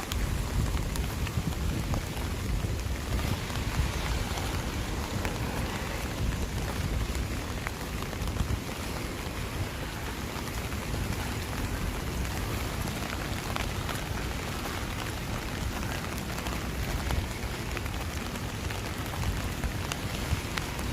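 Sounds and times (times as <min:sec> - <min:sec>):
heavy rain falling: 0:00.0 - 0:20.9
raindrops ticking on a surface: 0:00.0 - 0:20.9.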